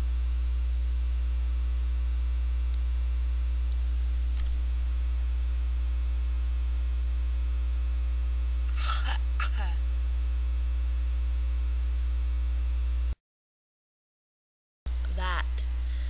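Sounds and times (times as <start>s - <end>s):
electrical mains hum: 0.0s - 13.2s, 14.9s - 16.0s.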